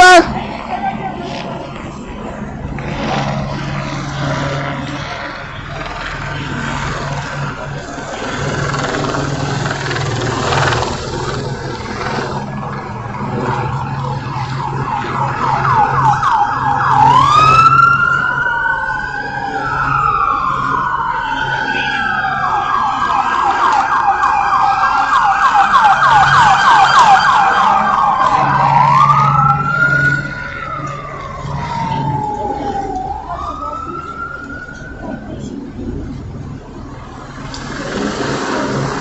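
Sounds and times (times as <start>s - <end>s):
low steady drone: 0.0s - 39.0s
police sirens yelping and wailing: 0.0s - 39.0s.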